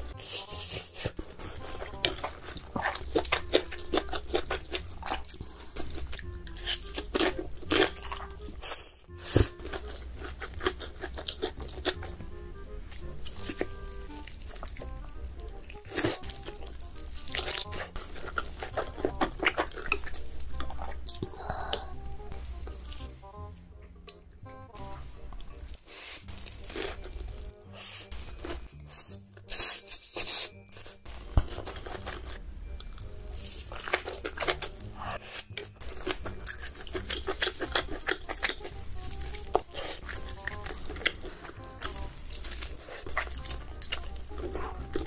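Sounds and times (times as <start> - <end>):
noodles slurped and chewed: 0.0 - 12.2, 13.0 - 23.1, 25.4 - 45.0
background music: 0.0 - 45.0.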